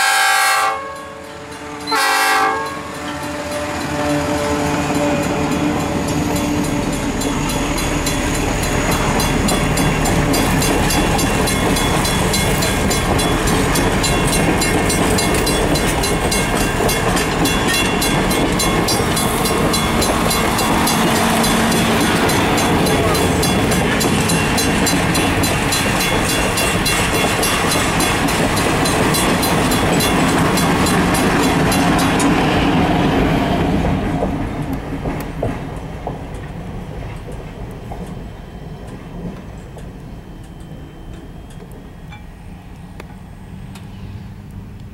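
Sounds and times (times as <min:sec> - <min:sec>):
crossing signal bell ringing: 0:00.6 - 0:32.9, 0:37.2 - 0:43.4
train wheels clacking on rails: 0:00.6 - 0:44.0.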